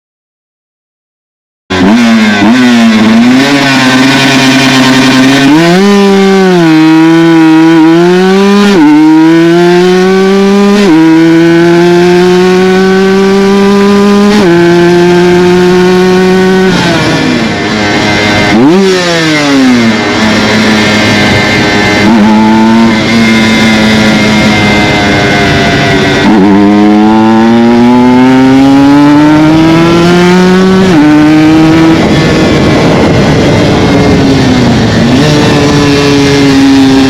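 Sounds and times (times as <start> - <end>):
motorcycle engine accelerating: 1.7 - 37.0.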